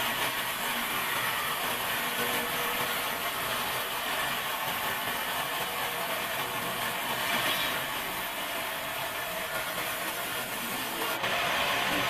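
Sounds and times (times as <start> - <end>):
band saw cutting wood: 0.0 - 12.0.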